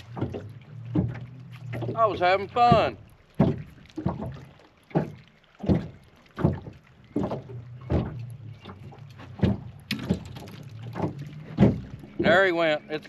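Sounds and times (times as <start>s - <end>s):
waves slapping boat hull: 0.0s - 13.0s.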